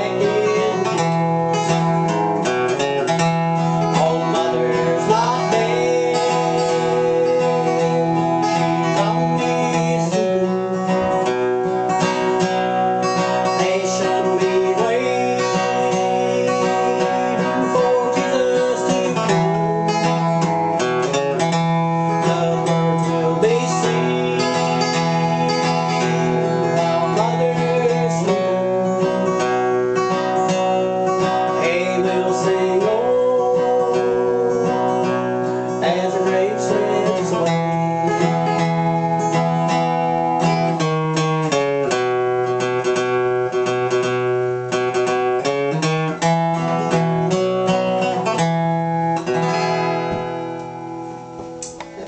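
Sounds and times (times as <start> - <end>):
acoustic guitar strumming: 0.0 - 52.0.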